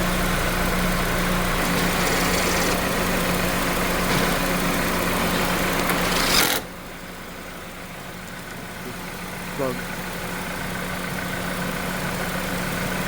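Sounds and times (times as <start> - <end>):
motor idling: 0.0 - 13.0.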